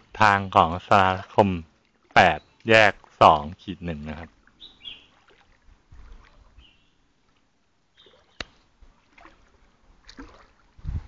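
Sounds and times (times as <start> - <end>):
water sloshing through floodwater: 0.0 - 11.0.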